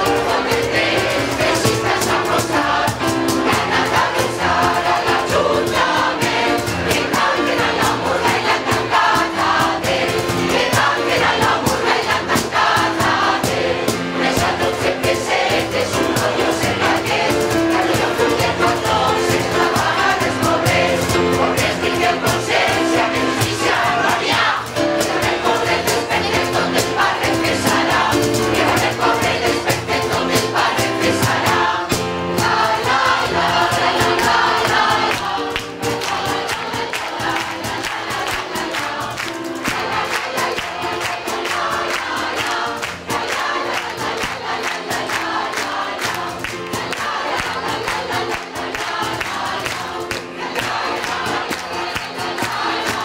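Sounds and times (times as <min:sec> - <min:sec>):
mixed choir singing: 0:00.0 - 0:53.0.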